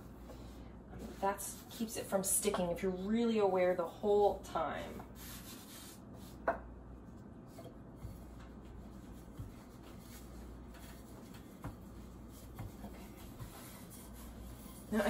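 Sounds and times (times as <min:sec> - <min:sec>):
hands rubbing and patting dough: 0:00.0 - 0:15.0
low steady hum: 0:00.0 - 0:15.0.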